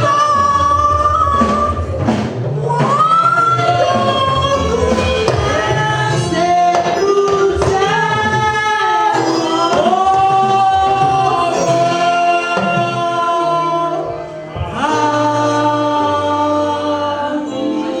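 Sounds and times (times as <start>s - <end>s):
gospel singing: 0.0s - 18.0s
instrumental backing with bass: 0.0s - 18.0s.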